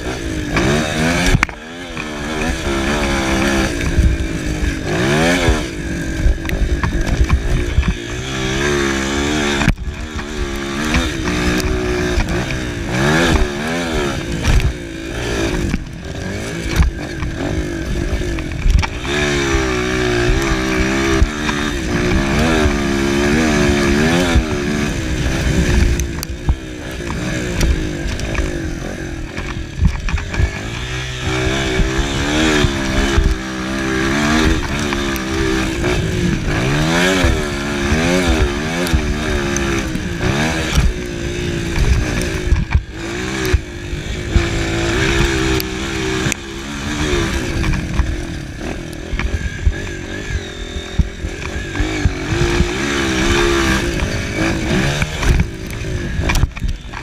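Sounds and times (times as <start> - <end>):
dirt bike engine revving: 0.0 - 57.0
knocks from rough dirt track: 0.0 - 57.0.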